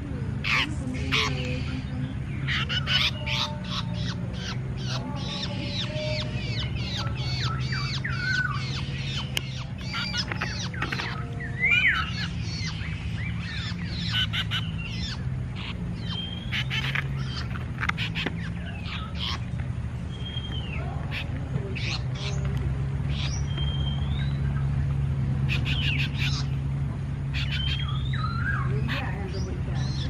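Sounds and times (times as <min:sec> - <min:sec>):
birds squawking and chirping: 0:00.0 - 0:30.0
steady low hum: 0:00.0 - 0:30.0.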